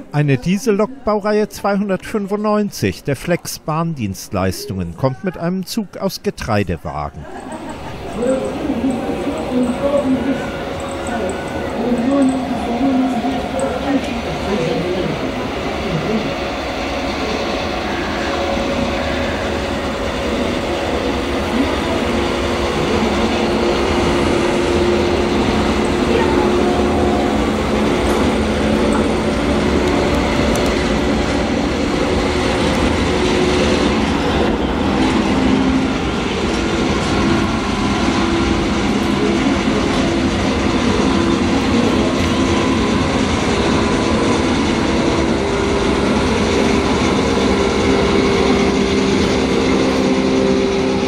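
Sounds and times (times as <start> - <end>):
locomotive engine drone: 6.9 - 51.0
train rumbling on rails: 7.2 - 51.0.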